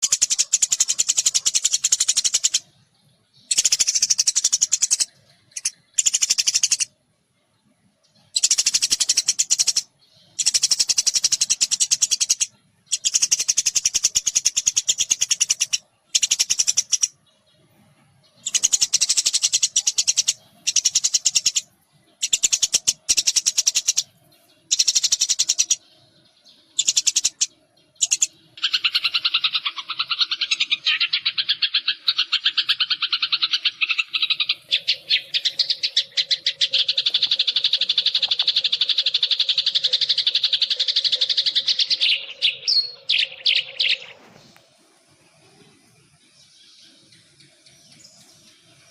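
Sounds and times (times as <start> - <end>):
small birds chattering: 0.0 - 48.9
lower bird call: 8.2 - 48.9.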